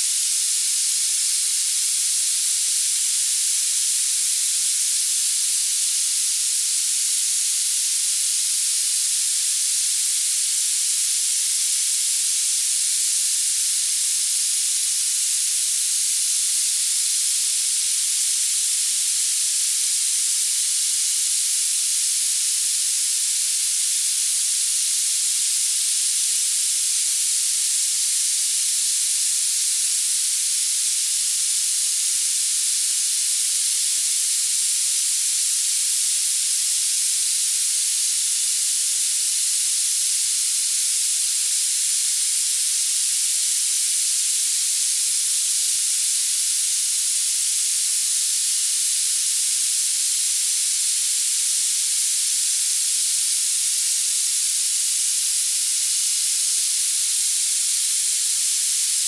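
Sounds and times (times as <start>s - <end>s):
high-pitched hiss: 0.0s - 59.0s.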